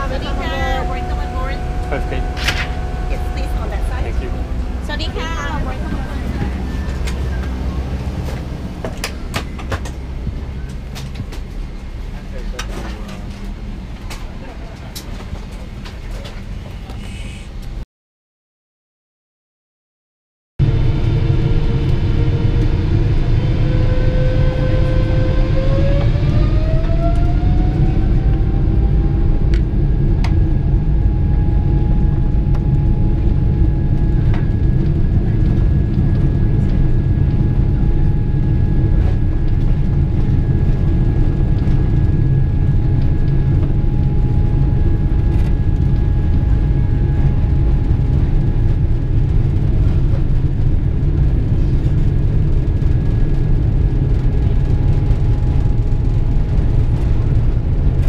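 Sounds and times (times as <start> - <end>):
jet engines rumbling with fan whine: 0.0 - 17.8, 20.6 - 58.0.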